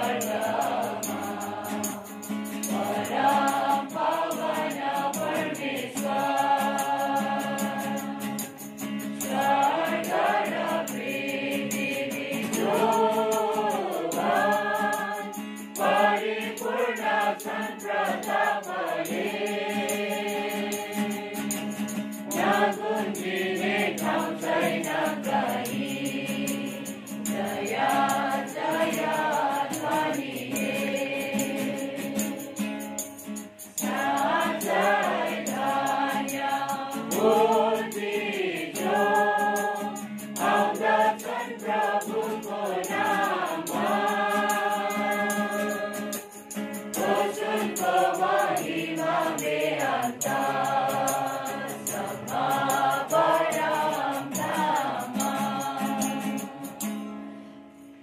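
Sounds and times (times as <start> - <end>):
congregation singing a hymn: 0.0 - 8.5, 9.1 - 33.0, 33.7 - 56.9
acoustic guitar: 0.0 - 58.0.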